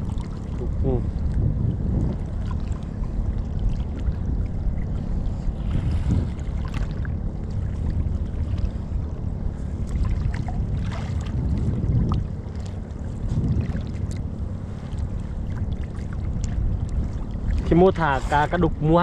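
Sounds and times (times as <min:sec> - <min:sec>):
boat engine rumble: 0:00.0 - 0:19.0
water splashing against hull: 0:00.0 - 0:19.0
wind buffeting microphone: 0:00.0 - 0:19.0.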